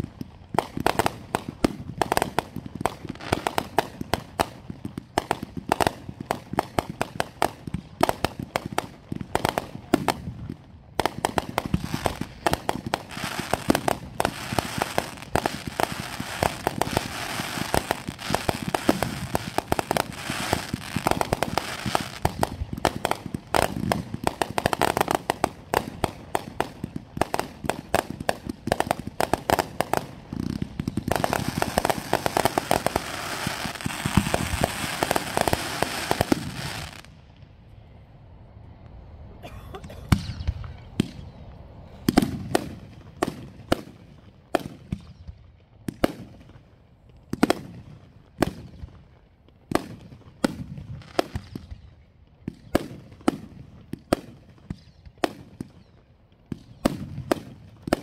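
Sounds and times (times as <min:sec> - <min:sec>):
fireworks bangs and crackling: 0:00.0 - 0:37.5, 0:39.8 - 0:58.0.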